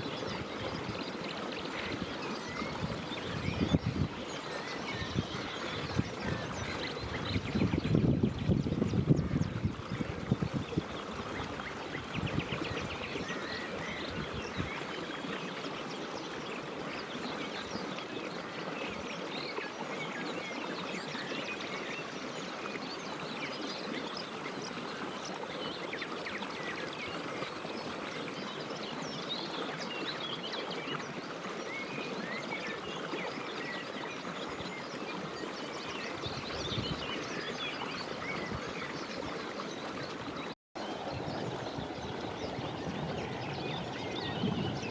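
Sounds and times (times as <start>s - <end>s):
birds chirping and trilling: 0.0s - 31.1s, 31.8s - 44.9s.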